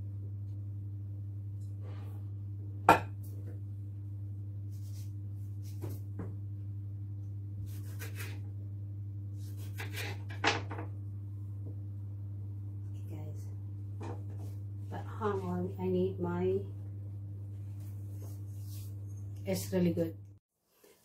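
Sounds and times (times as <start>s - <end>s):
steady low hum: 0.0s - 9.8s, 10.8s - 20.4s.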